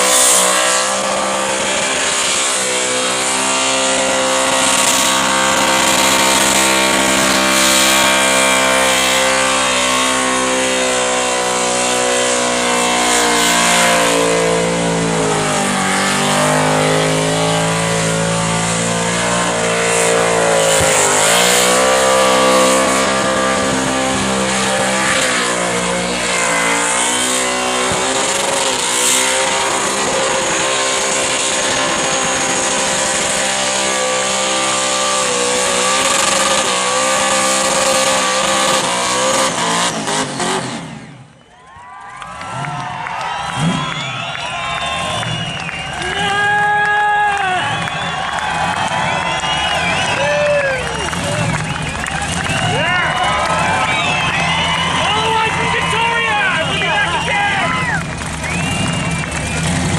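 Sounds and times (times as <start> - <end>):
spinning tyres hissing: 0.0 - 40.9, 43.4 - 59.9
car engine revving high: 0.0 - 41.4, 42.2 - 59.9.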